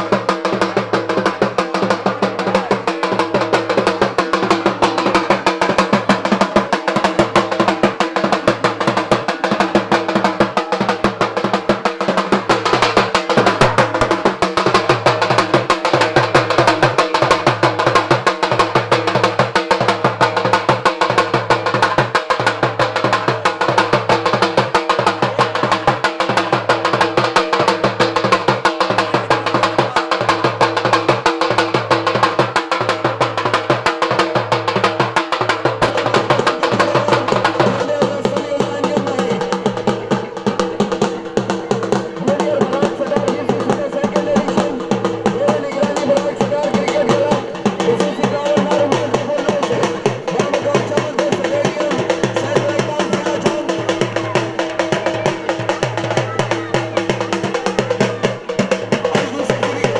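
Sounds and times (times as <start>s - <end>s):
barrel drum beaten with sticks: 0.0s - 59.9s.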